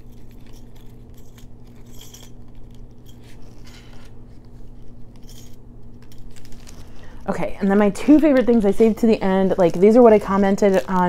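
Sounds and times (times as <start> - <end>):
metal beads clinking: 0.0 - 11.0
plastic bag crinkling: 0.0 - 11.0
steady low hum: 0.0 - 11.0.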